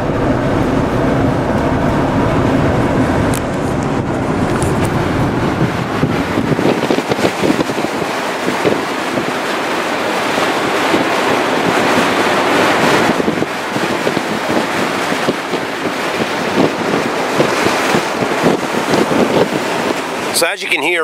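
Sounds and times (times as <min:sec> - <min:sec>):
wind rushing through sunroof: 0:00.0 - 0:21.0.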